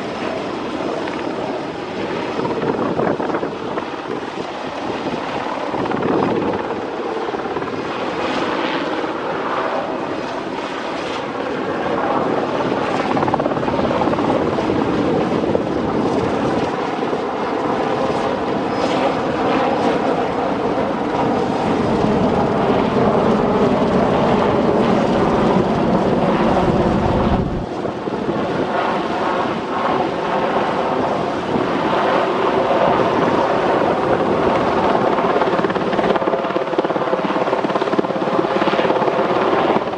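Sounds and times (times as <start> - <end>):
helicopter flying overhead: 0.0 - 39.9.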